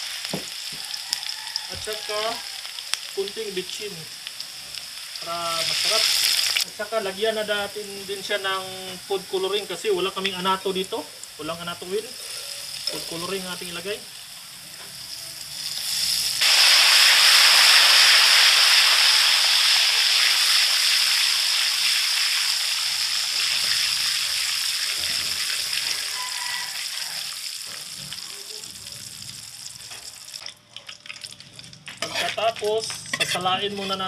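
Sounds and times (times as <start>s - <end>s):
oil sizzling: 0.0s - 34.0s.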